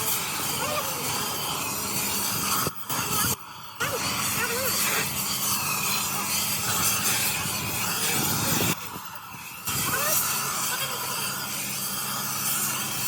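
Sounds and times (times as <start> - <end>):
hissing metalworking machine: 0.0 - 13.0.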